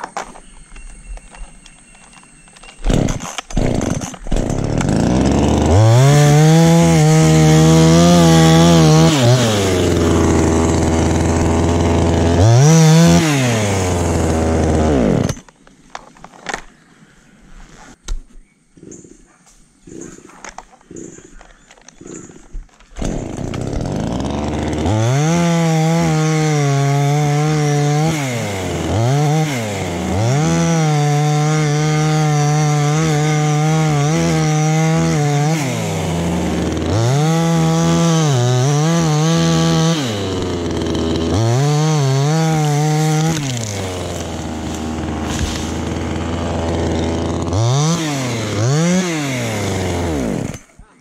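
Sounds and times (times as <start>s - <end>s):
chainsaw revving: 2.8s - 15.4s, 22.0s - 50.8s.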